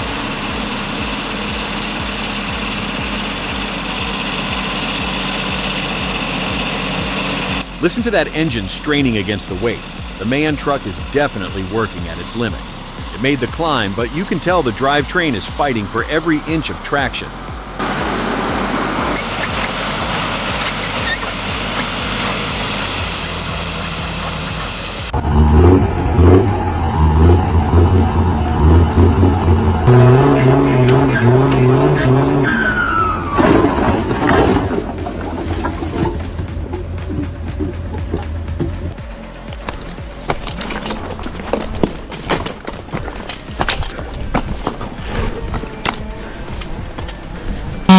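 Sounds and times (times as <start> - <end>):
truck diesel engine labouring: 0.0 - 47.9.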